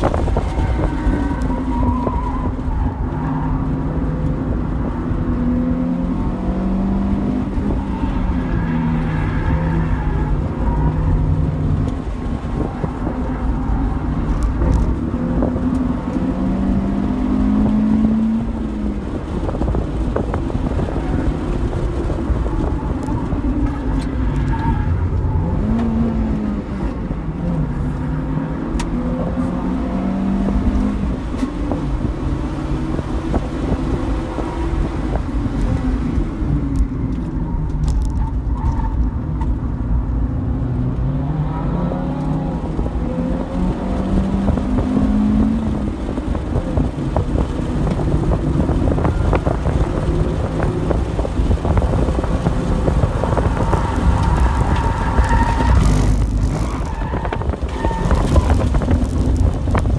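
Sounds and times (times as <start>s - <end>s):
car engine accelerating and slowing: 0.0s - 59.9s.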